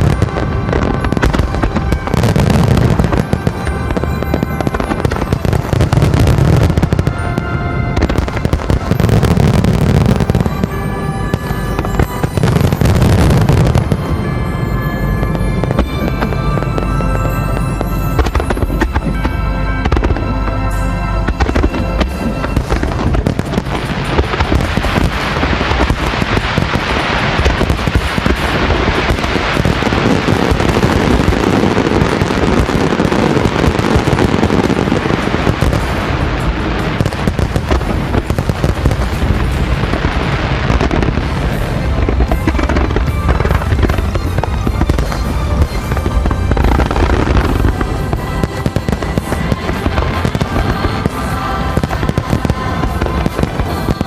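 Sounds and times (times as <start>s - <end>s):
fireworks bursting and crackling: 0.0s - 54.0s
music playing: 0.0s - 54.0s.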